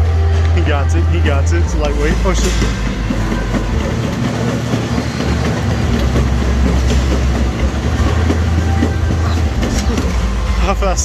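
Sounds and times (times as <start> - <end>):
treadmill belt rumbling and clattering: 0.0 - 11.0
rapid running footfalls: 1.2 - 10.7.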